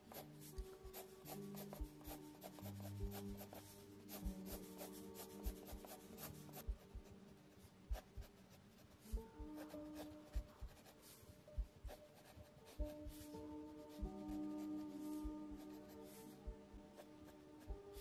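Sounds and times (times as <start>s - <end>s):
pencil scratching on paper: 0.0s - 18.0s
soft background music: 0.0s - 18.0s.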